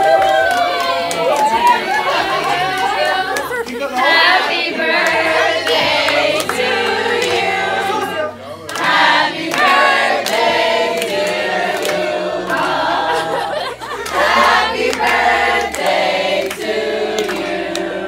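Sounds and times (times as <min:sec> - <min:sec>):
group of people singing: 0:00.0 - 0:18.0.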